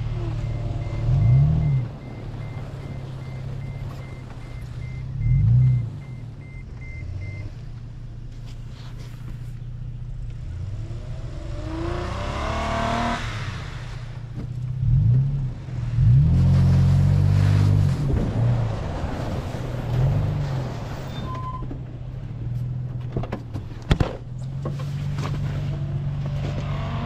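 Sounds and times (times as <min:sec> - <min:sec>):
truck engine running and revving: 0:00.0 - 0:27.0.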